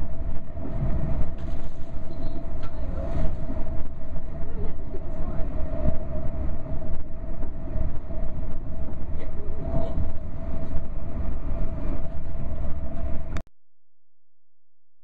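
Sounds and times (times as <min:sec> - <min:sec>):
mid-pitched whine: 0:00.0 - 0:13.4
train interior low rumble: 0:00.0 - 0:13.4.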